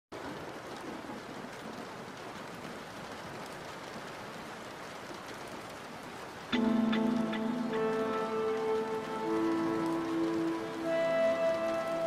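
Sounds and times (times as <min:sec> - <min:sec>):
steady rain hiss: 0:00.2 - 0:12.0.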